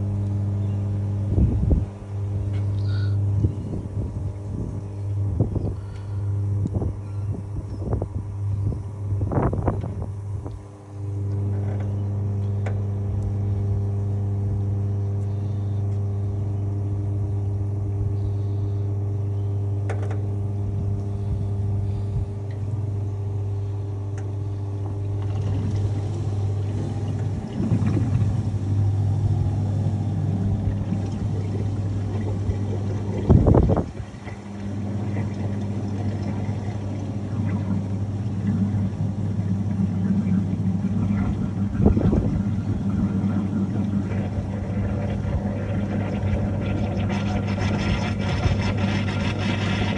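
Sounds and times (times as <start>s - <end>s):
washing machine motor hum: 0.0s - 49.9s.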